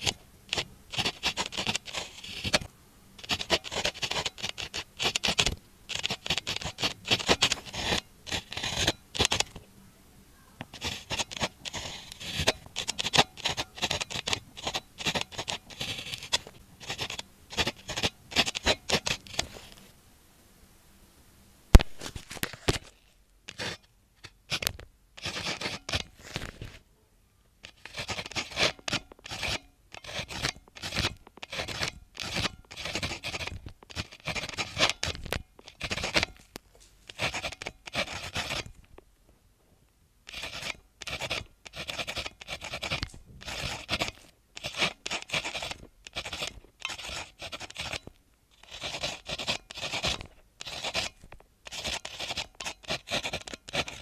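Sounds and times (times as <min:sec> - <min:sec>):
pen scratching on paper: 0:00.0 - 0:09.6, 0:10.6 - 0:19.8, 0:22.7 - 0:26.8, 0:27.6 - 0:36.5, 0:37.1 - 0:38.8, 0:40.3 - 0:54.0.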